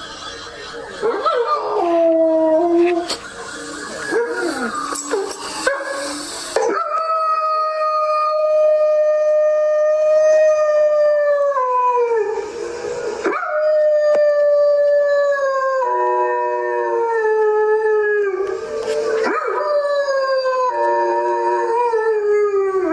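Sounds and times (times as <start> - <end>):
dog howling: 0.1 - 22.9.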